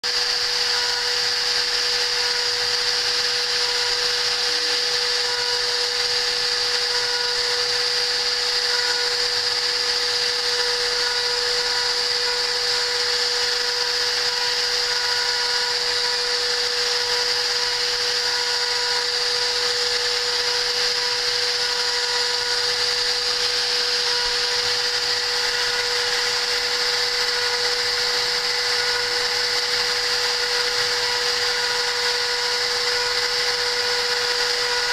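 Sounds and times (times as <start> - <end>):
spindle motor whine: 0.0 - 34.9.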